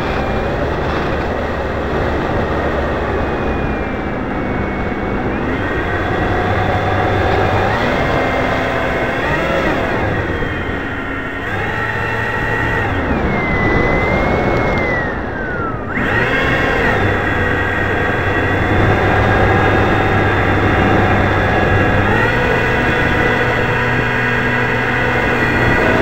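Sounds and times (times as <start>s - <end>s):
model plane motor whining: 0.0s - 26.0s
wind rush on microphone: 0.0s - 26.0s.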